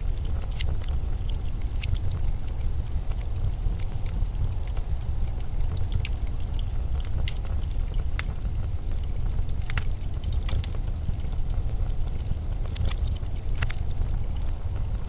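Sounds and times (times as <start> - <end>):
blizzard wind rumbling: 0.0 - 15.0
sharp crackles and ticks: 0.0 - 15.0.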